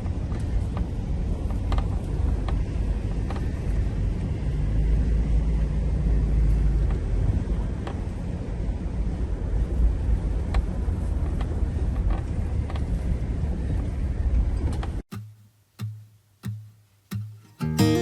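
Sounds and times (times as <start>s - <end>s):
car driving rumble: 0.0s - 15.1s.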